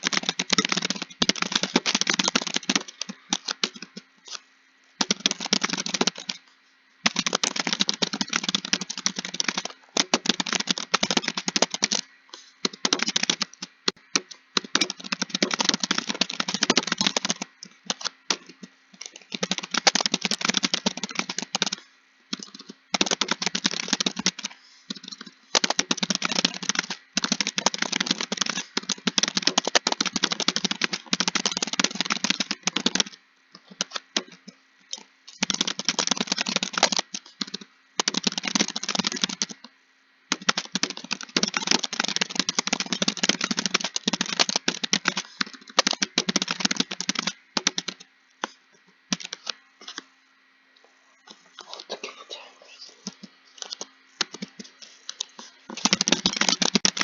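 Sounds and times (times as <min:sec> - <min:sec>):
fast typing on keyboard: 0:00.0 - 0:04.4, 0:05.0 - 0:06.4, 0:07.0 - 0:39.7, 0:40.3 - 0:48.1, 0:49.1 - 0:50.0, 0:53.0 - 0:57.0.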